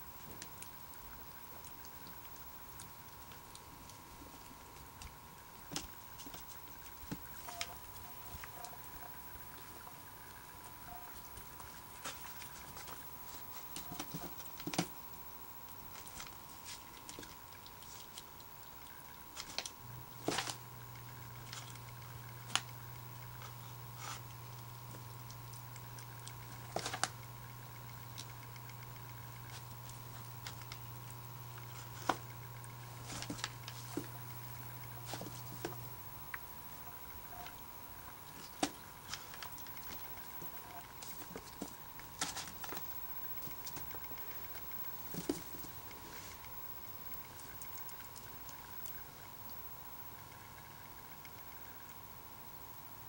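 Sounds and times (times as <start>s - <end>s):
squirrels gnawing corn: 0.0s - 53.0s
squirrels scrabbling on newspaper: 0.2s - 36.0s, 38.2s - 49.1s.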